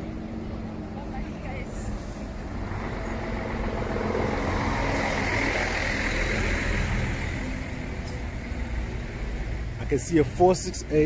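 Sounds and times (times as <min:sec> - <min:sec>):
low traffic rumble: 0:00.0 - 0:11.0
vehicle passing on road: 0:00.0 - 0:11.0.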